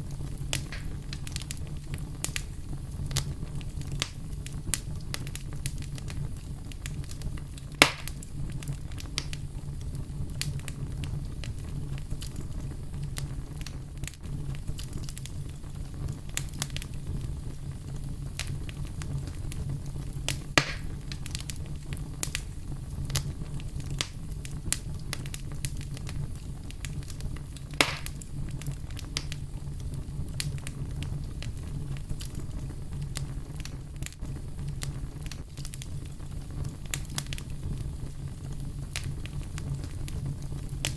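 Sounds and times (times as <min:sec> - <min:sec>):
loud fire pops: 0:00.0 - 0:40.9
low rumble of flames: 0:00.0 - 0:40.9
wood fire crackling: 0:00.0 - 0:40.9.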